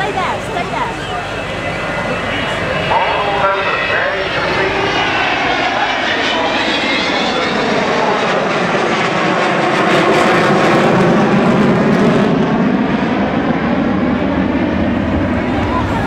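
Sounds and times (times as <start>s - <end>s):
jet aircraft flying past: 0.0s - 16.0s.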